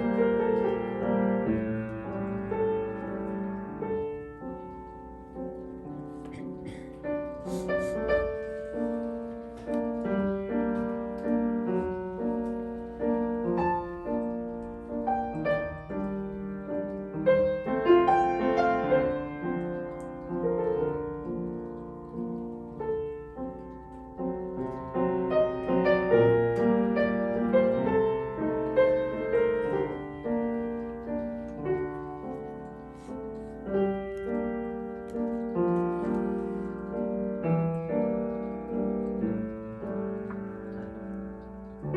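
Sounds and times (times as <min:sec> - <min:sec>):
solo piano piece: 0:00.0 - 0:41.9.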